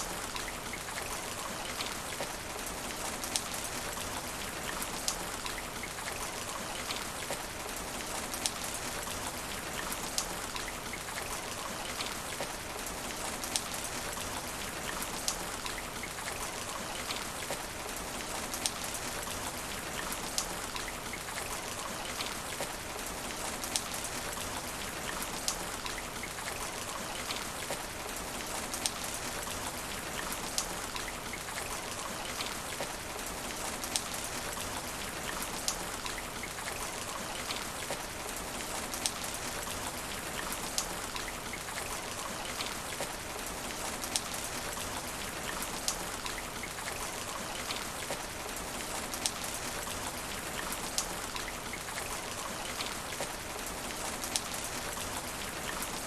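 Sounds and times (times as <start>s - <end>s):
rain on asphalt: 0.0s - 56.0s.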